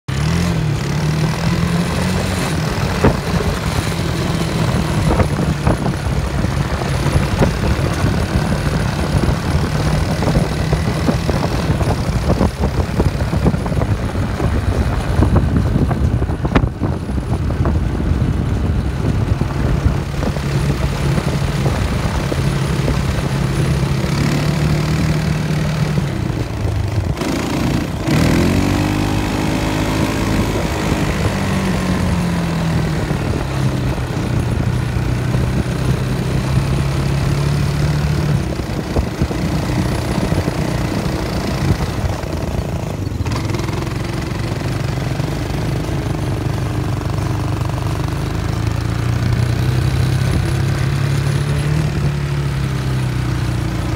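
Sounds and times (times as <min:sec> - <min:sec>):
quad bike engines running: 0:00.1 - 0:53.9.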